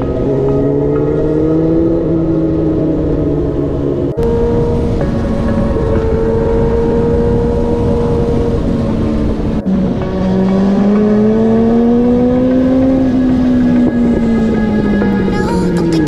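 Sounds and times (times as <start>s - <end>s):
motorcycle engine accelerating: 0.0s - 15.3s.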